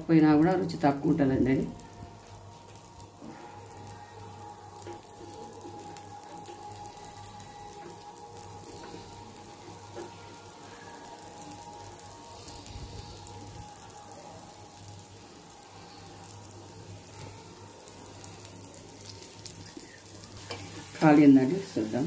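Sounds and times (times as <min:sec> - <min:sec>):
batter sizzling on a griddle: 0:00.0 - 0:22.0.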